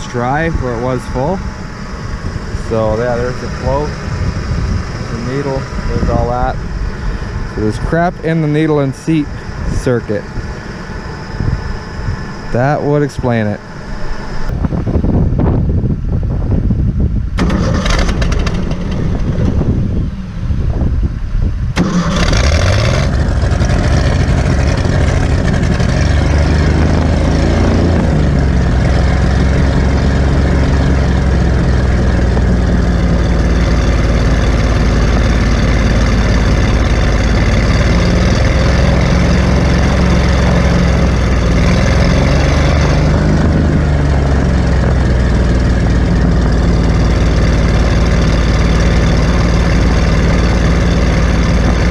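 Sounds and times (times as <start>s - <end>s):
gasoline engine cranking and running: 0.0s - 13.1s, 17.3s - 20.4s, 21.7s - 51.9s.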